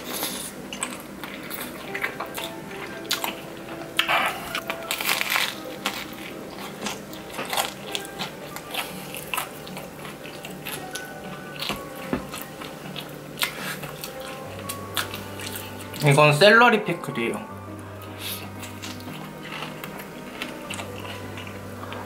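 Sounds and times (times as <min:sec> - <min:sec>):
chewing crunchy pizza crust: 0:00.0 - 0:16.2, 0:18.0 - 0:22.0.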